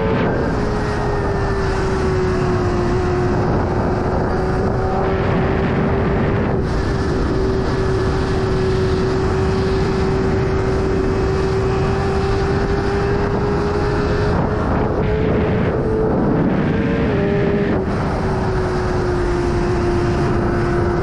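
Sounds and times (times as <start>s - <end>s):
motorcycle engine at high revs: 0.0s - 21.0s
wind rush: 0.0s - 21.0s.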